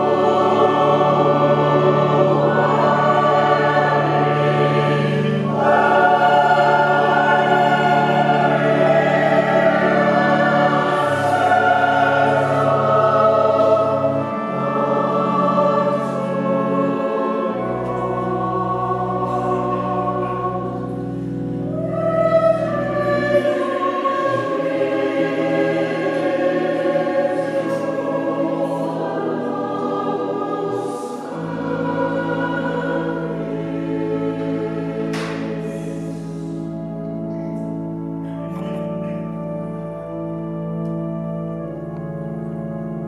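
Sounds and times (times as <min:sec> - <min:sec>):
mixed choir singing: 0:00.0 - 0:36.8
low organ notes: 0:00.0 - 0:43.0.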